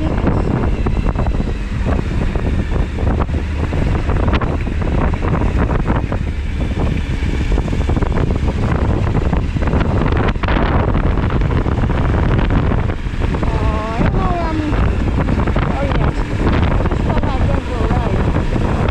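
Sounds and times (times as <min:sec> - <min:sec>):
motorcycle engine running: 0:00.0 - 0:18.9
wind rushing over microphone: 0:00.0 - 0:18.9.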